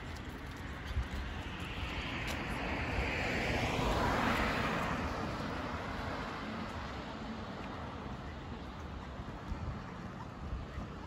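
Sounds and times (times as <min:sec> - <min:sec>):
car passing: 0:00.0 - 0:10.3.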